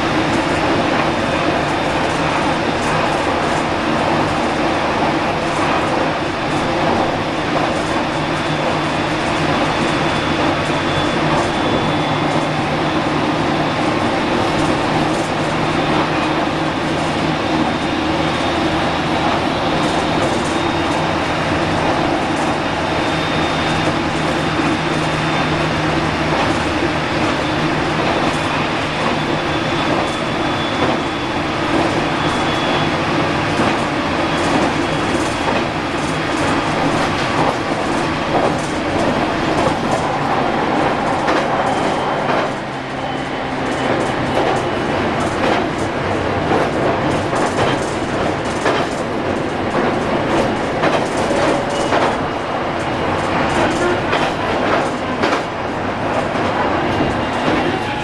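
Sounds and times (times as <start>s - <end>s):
rail-joint clicking: 0.0s - 58.0s
train wheels rumbling on rail: 0.0s - 58.0s.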